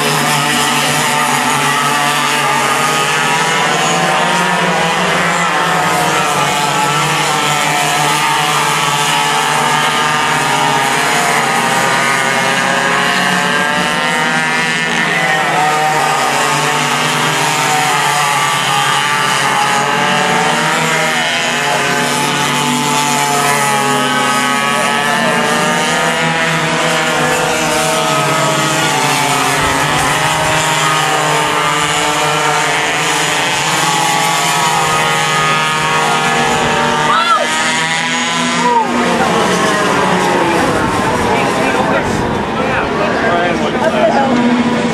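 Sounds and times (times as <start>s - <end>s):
go-kart engines revving: 0.0s - 44.9s.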